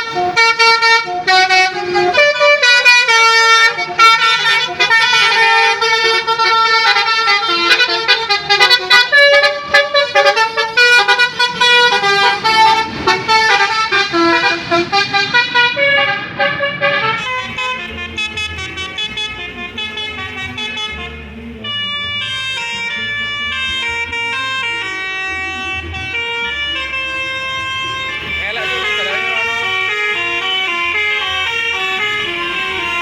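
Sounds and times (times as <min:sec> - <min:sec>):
bus horn playing a melody: 0:00.0 - 0:33.0.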